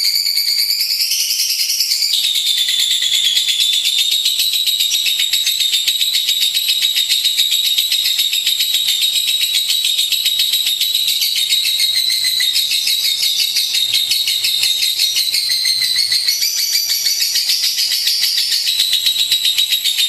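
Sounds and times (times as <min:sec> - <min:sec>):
bird high-pitched chattering: 0:00.0 - 0:20.0.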